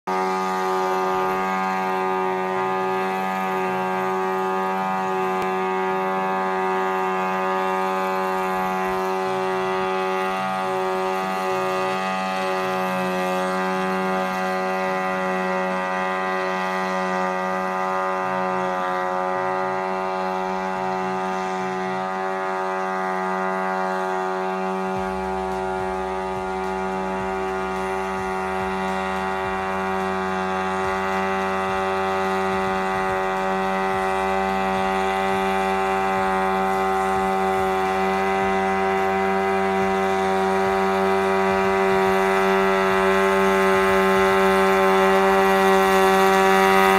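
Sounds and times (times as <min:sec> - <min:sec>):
drone rotors droning: 0:00.0 - 0:46.9
low rumble: 0:00.1 - 0:46.9.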